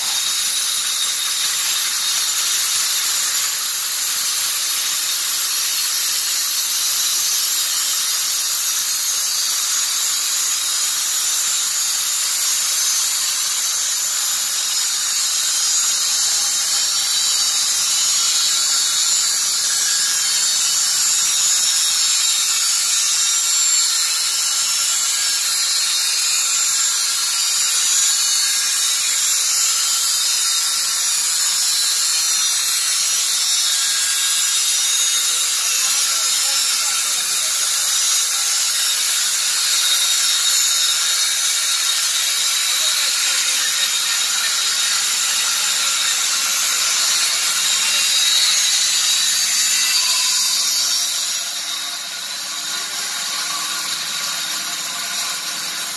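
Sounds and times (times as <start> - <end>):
electric saw cutting timber: 0.0 - 55.9.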